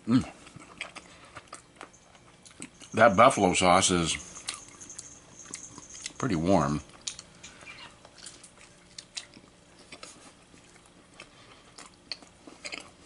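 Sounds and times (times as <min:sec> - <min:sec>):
person chewing: 0:00.2 - 0:03.1, 0:04.2 - 0:06.2, 0:06.8 - 0:13.0.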